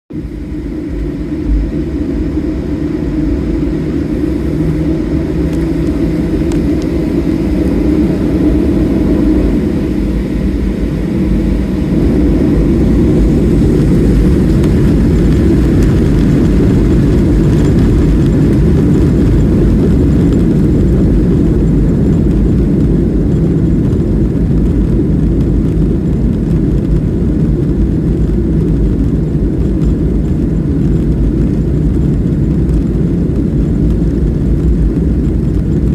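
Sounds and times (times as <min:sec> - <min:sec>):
jet engines at takeoff power: 0:00.1 - 0:35.9.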